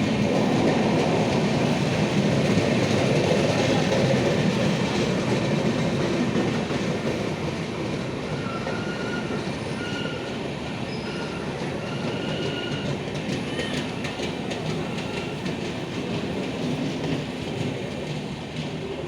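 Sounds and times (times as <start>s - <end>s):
passenger train rumbling on rails: 0.0s - 19.0s.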